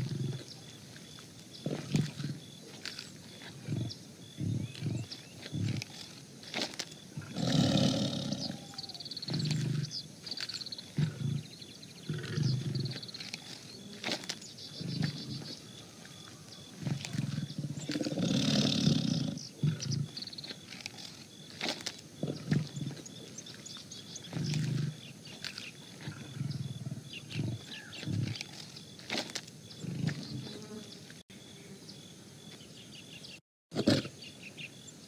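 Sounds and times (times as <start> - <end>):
tiger growling: 0.0 - 30.8, 33.8 - 34.2.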